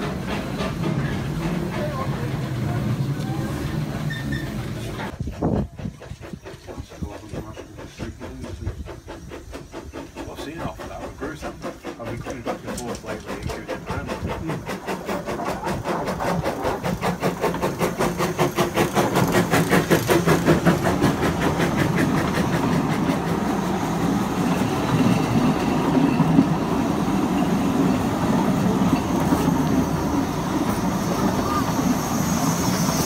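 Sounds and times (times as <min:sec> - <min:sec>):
steam locomotive exhaust beats: 0:00.0 - 0:33.0.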